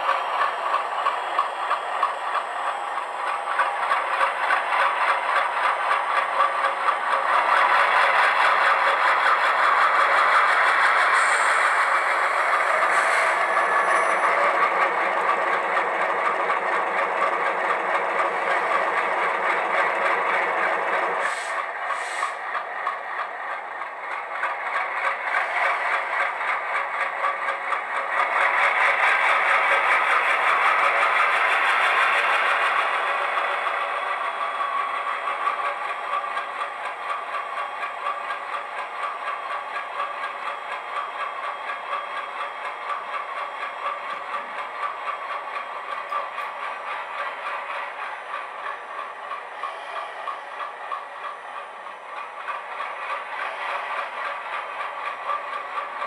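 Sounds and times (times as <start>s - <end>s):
diesel locomotive engine throbbing: 0.0s - 56.0s.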